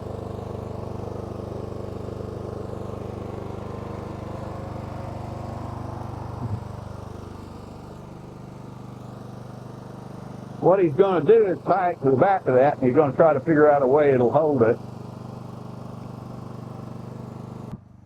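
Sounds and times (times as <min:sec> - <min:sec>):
lawn mower engine idling: 0:00.0 - 0:18.0.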